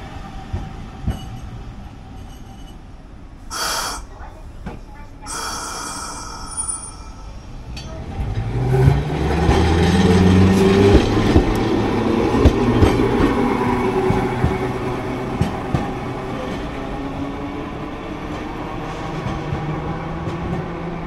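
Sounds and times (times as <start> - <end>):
streetcar motor hum: 0.0 - 21.0.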